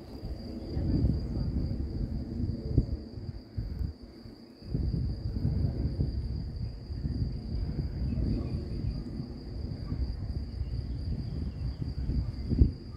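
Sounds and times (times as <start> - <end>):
crickets chirping: 0.0 - 12.9
uneven low rumble: 0.0 - 12.9.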